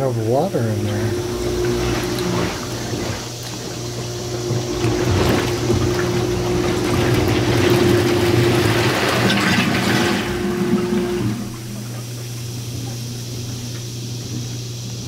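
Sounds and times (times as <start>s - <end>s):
pump motor humming: 0.0s - 15.0s
water churning and bubbling: 0.0s - 15.0s.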